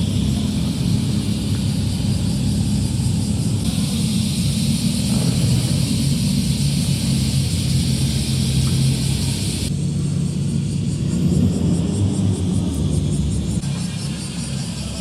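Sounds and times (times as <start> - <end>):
car exhaust rumbling at low revs: 0.0 - 15.0.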